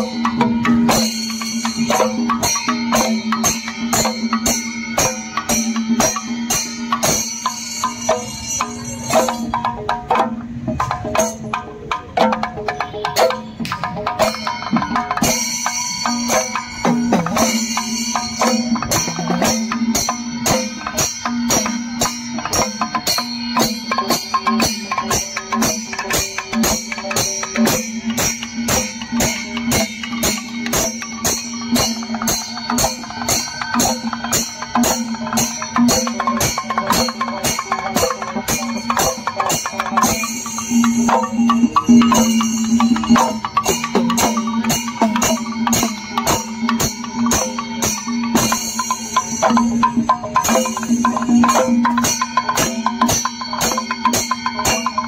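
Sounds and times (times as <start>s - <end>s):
drums and cymbals beating: 0.0s - 55.0s.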